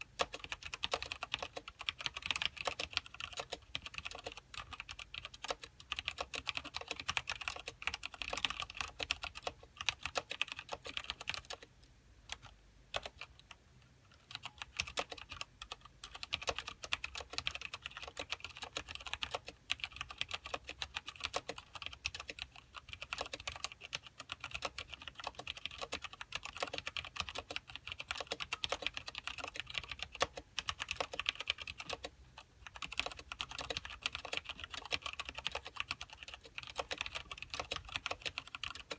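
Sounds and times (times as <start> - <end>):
fast typing on mechanical keyboard: 0.1 - 11.7, 12.3 - 13.5, 14.3 - 38.9.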